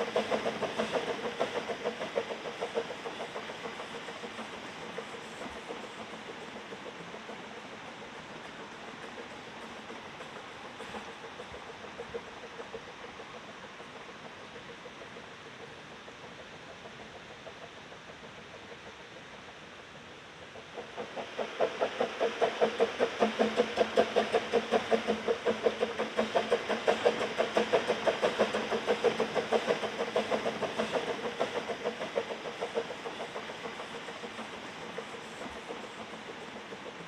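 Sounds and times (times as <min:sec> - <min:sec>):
steam locomotive chuffing: 0:00.0 - 0:37.0.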